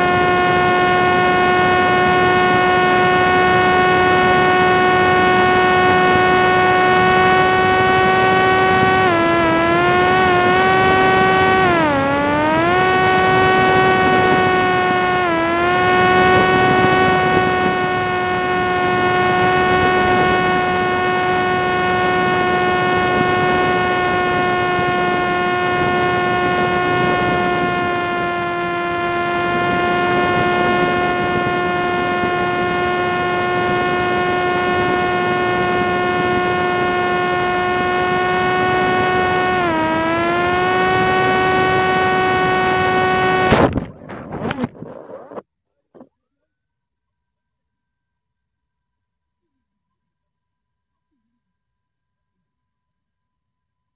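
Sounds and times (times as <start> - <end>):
drone propeller whining: 0.0 - 45.4
wind noise: 0.0 - 45.4.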